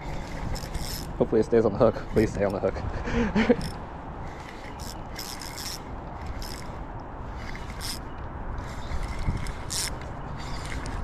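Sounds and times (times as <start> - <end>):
fishing reel cranking: 0.0 - 2.7, 3.5 - 11.0.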